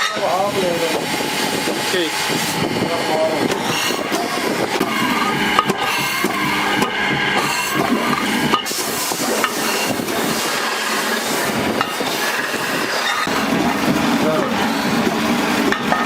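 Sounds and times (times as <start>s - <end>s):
workshop din of tools: 0.0s - 16.0s.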